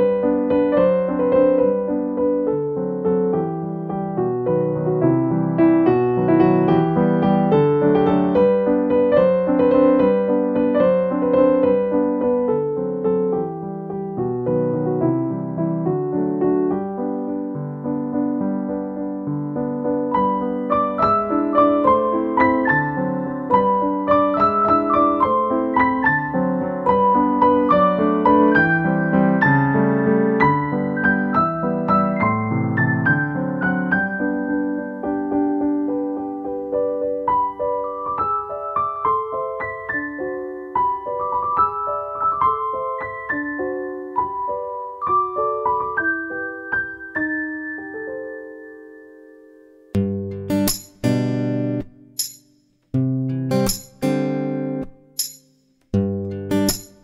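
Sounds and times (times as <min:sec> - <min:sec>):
gentle piano tune: 0:00.0 - 0:52.3, 0:56.0 - 0:57.0.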